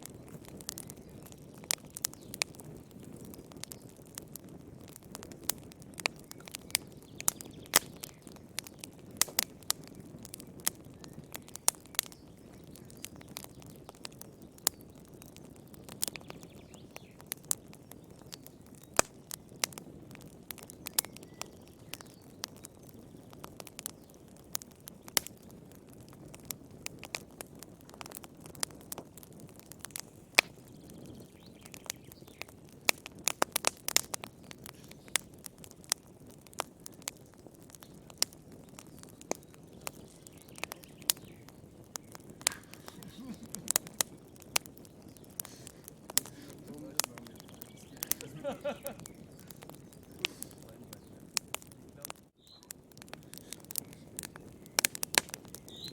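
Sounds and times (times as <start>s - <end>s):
fire crackling and popping: 0.0s - 55.9s
rush of flames: 0.0s - 55.9s.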